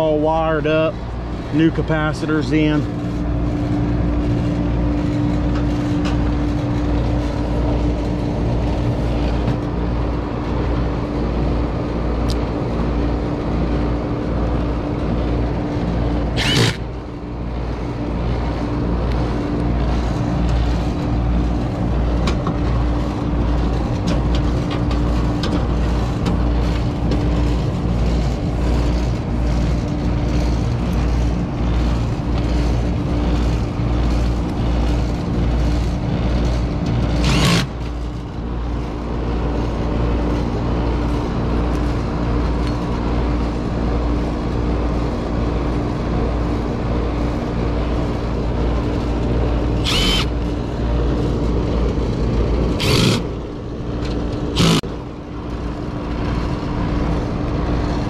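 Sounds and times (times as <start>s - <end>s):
air conditioner humming: 0.0s - 58.0s
low pulsing rumble: 0.0s - 58.0s.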